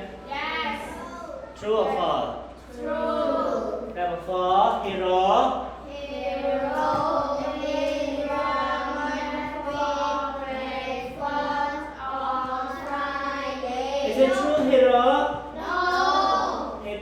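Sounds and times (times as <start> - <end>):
children chanting in sing-song: 0.0 - 1.6, 2.6 - 4.0, 5.7 - 17.0.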